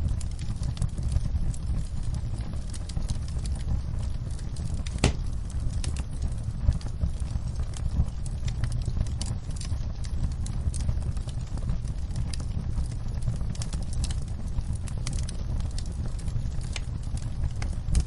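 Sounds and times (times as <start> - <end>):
sharp pops of fire: 0.0 - 18.0
wood fire crackling: 0.0 - 18.0.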